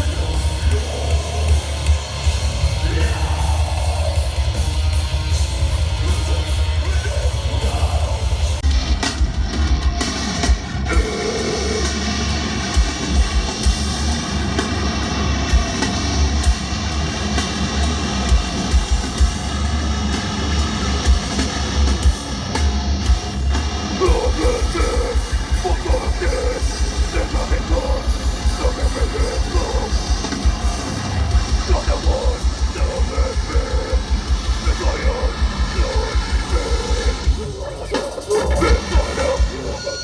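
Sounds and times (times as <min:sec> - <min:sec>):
distorted electric guitars: 0:00.0 - 0:40.0
drums: 0:00.0 - 0:40.0.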